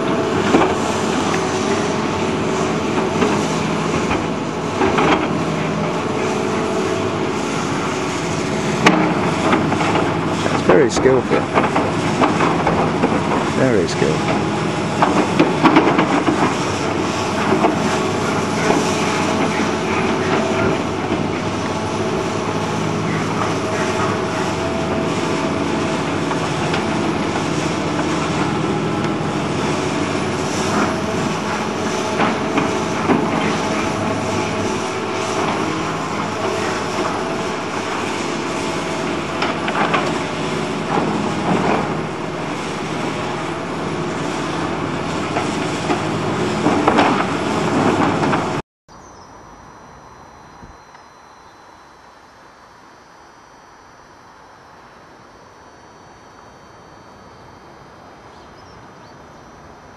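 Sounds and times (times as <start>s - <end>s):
excavator diesel engine running: 0.0s - 48.6s.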